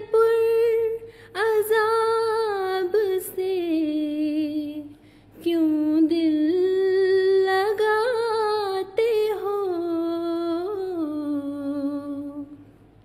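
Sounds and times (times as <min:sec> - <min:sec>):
woman chanting: 0:00.0 - 0:12.6.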